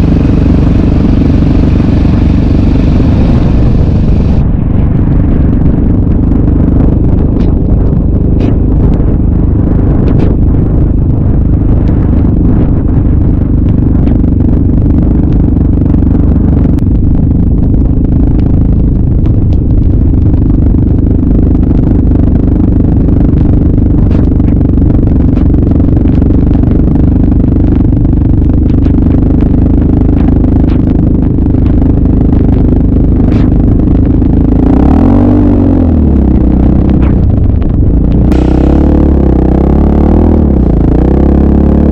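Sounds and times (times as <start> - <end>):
atv engine running: 0.0 - 41.9.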